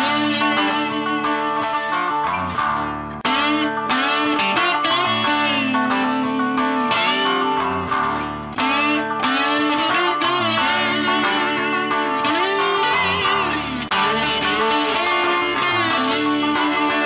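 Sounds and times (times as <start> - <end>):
electric guitar music: 0.0 - 17.0.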